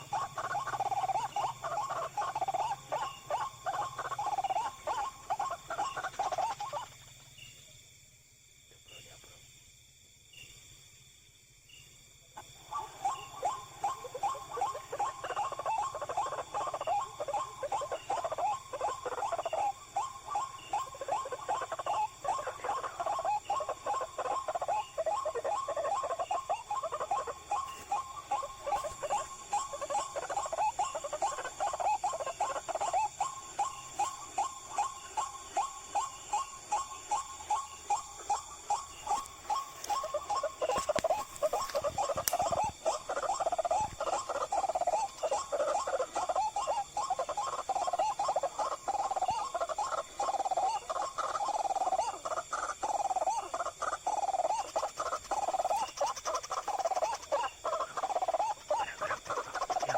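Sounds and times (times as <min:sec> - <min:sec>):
waterhen croaking calls: 0:00.0 - 0:07.0, 0:12.4 - 0:59.9.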